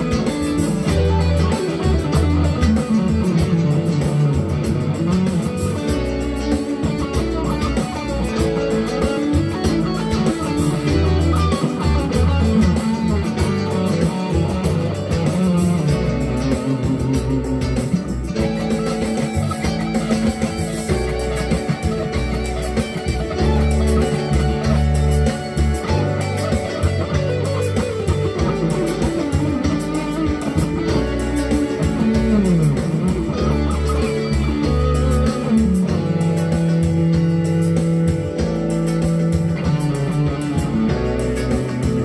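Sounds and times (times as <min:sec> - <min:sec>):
electric guitar playing: 0:00.0 - 0:42.0.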